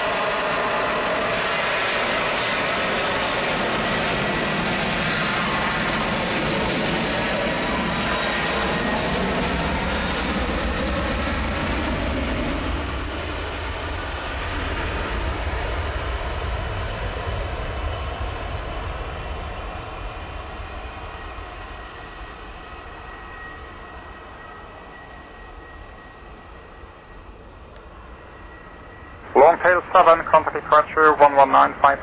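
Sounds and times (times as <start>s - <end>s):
jet engines at takeoff power: 0.0s - 32.0s.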